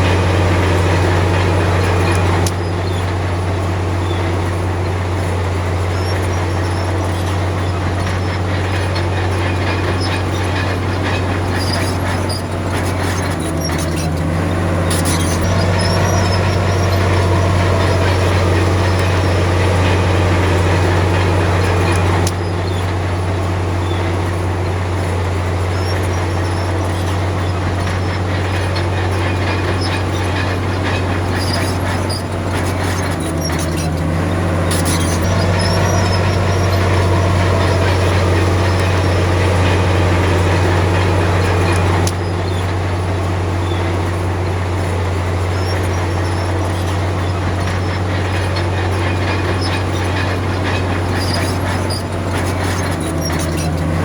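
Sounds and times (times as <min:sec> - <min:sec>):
bulldozer diesel engine running: 0:00.0 - 0:54.0
steel tracks squealing and clanking: 0:00.0 - 0:54.0.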